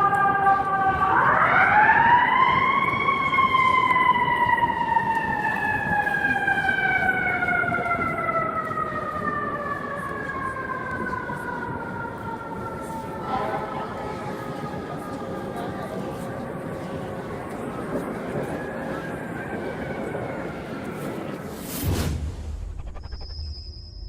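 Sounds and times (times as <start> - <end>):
fire engine siren wailing: 0.0 - 21.8.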